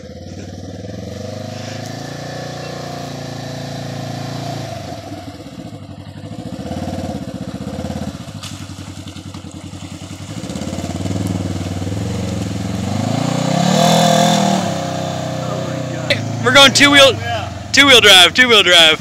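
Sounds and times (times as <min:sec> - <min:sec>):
engine revving: 0:00.0 - 0:19.0
wheels churning muddy water: 0:00.0 - 0:19.0.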